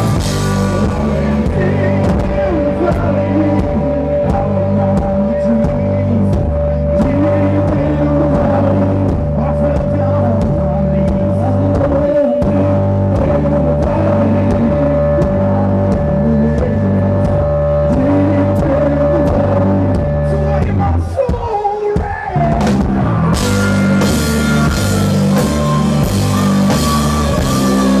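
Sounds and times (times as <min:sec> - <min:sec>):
blues-rock band playing: 0:00.0 - 0:28.0.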